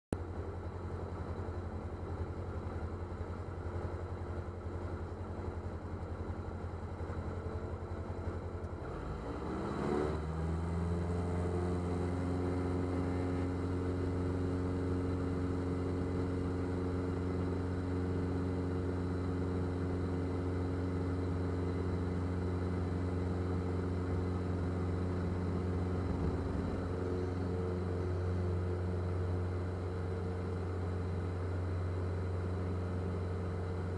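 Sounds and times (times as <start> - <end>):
propeller aircraft engine: 0.1 - 33.9.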